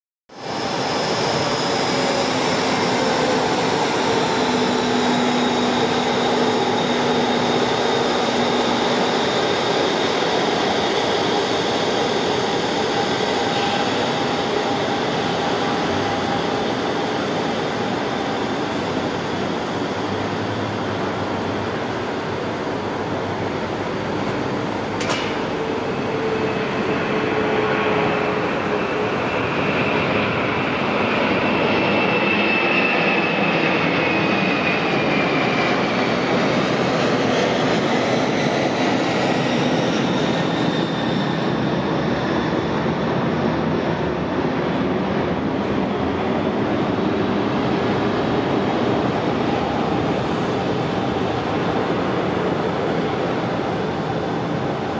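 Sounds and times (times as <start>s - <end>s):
jet engines at takeoff power: 0.3s - 54.9s.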